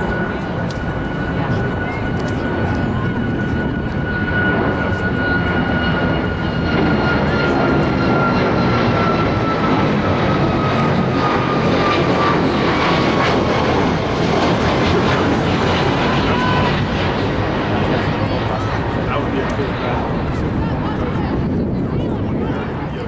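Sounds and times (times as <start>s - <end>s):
airplane passing overhead: 0.0s - 23.0s.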